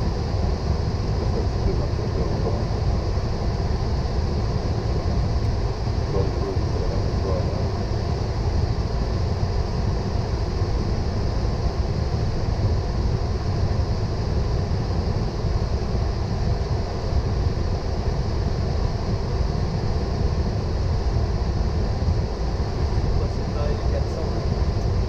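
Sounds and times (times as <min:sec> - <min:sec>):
aircraft cockpit rumble and hiss: 0:00.0 - 0:25.0.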